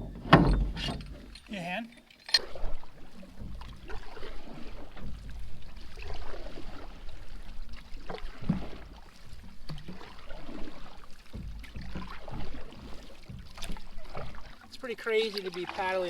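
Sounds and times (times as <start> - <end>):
paddle splashing water: 0.0 - 16.0
water lapping against hull: 0.0 - 16.0.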